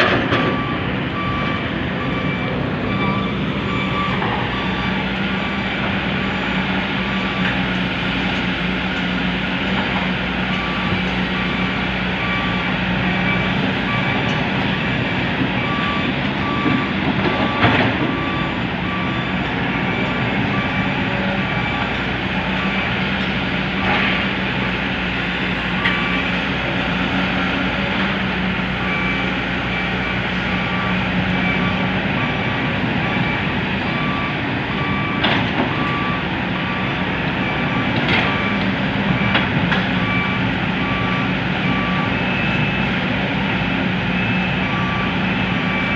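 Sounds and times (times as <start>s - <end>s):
diesel engine running: 0.0s - 45.9s
reversing alarm beeps: 0.0s - 45.9s.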